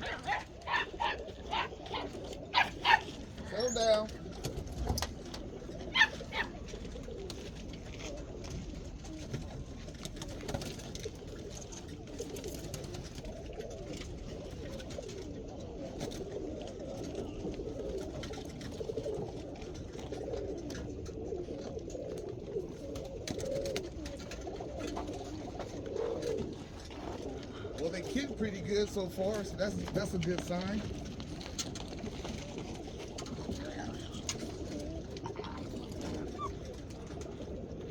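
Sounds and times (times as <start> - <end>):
pigeons cooing: 0.0 - 37.9.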